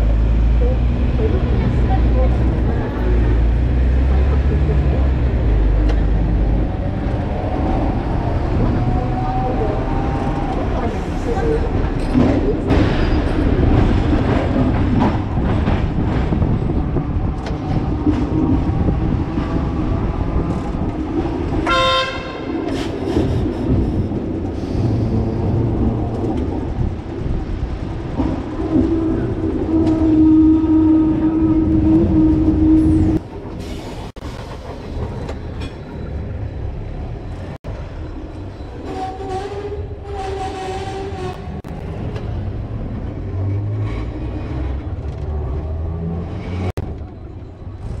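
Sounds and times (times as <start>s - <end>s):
tram wheels rumbling on rails: 0.0s - 48.0s.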